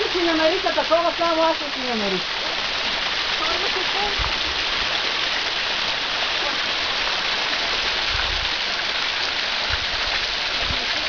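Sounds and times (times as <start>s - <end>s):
waterfall splashing: 0.0s - 11.0s.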